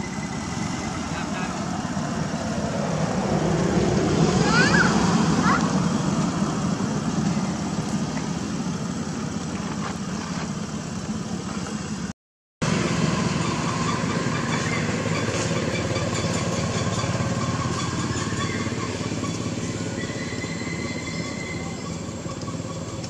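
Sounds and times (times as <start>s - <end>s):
engine-like running drone: 0.0s - 23.0s.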